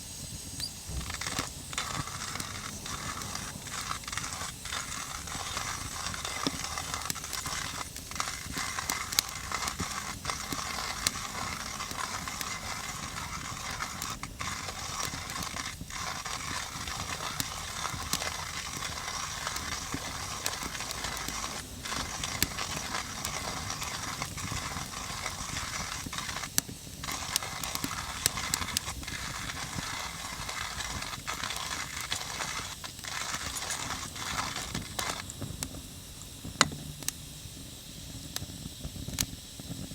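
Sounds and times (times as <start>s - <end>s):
coffee grinder grinding beans: 0.0s - 39.9s.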